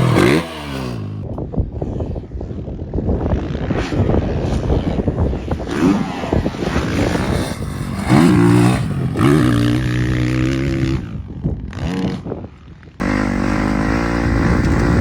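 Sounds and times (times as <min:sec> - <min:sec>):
dirt bike engine revving: 0:00.0 - 0:01.3, 0:03.1 - 0:15.0
constant rushing noise: 0:01.2 - 0:15.0.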